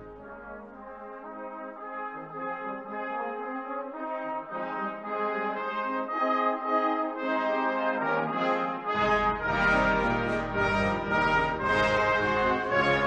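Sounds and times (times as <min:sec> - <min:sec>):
brass band playing hymn: 0:00.0 - 0:13.0.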